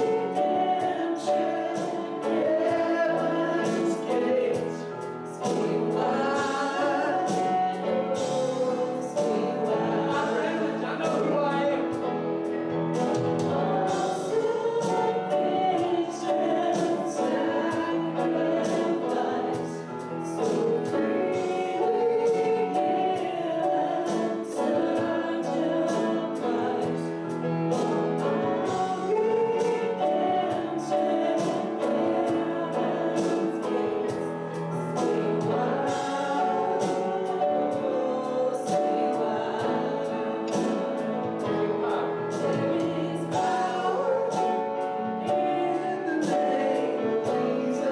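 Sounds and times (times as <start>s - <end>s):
group singing a hymn: 0.0s - 47.9s
instrumental accompaniment: 0.0s - 47.9s.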